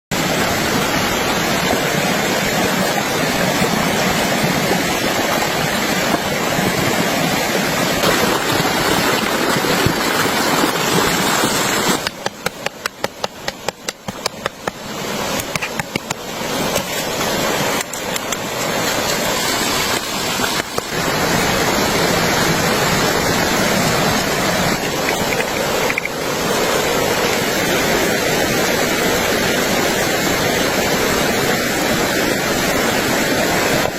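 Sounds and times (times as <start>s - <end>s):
water rushing: 0.1s - 33.9s.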